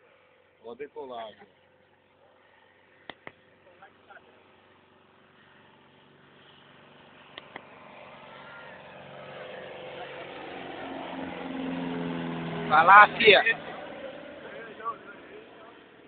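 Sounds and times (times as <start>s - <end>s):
light aircraft engine drone: 0.0s - 16.0s.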